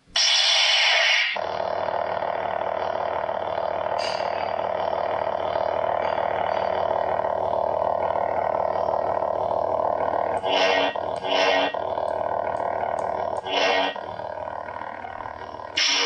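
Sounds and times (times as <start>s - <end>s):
lightsaber electric buzz: 0.0s - 16.0s.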